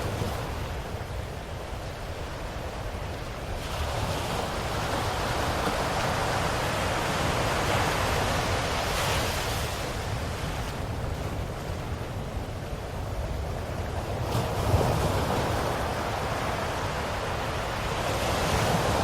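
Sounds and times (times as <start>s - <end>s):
ocean surf swell: 0.0s - 19.0s.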